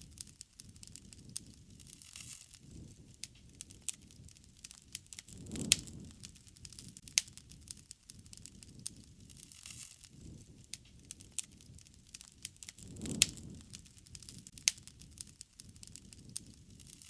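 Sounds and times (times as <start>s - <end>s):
campfire crackling and popping: 0.0s - 17.0s
low rumble of flame: 0.0s - 17.0s.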